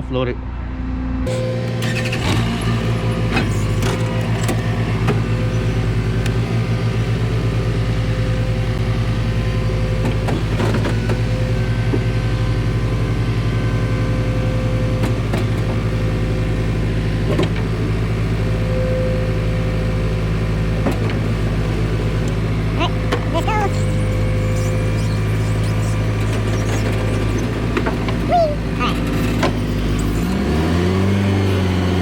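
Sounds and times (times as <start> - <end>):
forklift engine running: 0.6 - 32.0.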